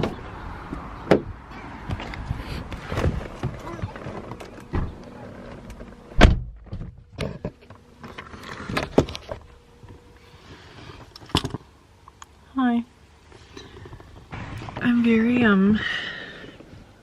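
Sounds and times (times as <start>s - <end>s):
faint steady hum: 3.0s - 17.0s.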